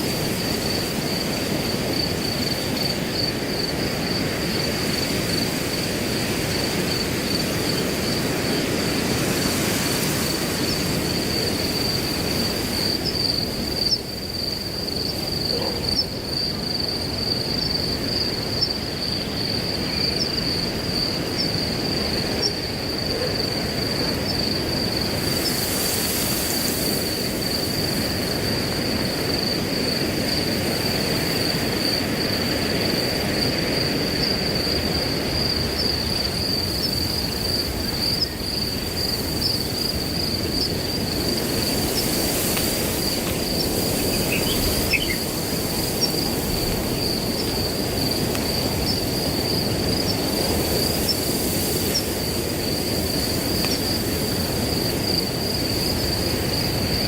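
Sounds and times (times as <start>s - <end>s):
crickets trilling: 0.0s - 57.0s
wind through grass: 0.0s - 57.0s.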